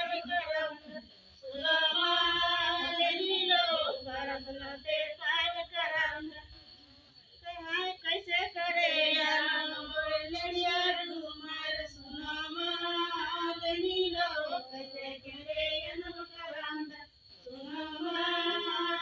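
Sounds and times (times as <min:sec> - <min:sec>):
women singing together: 0:00.0 - 0:06.8, 0:07.4 - 0:19.0.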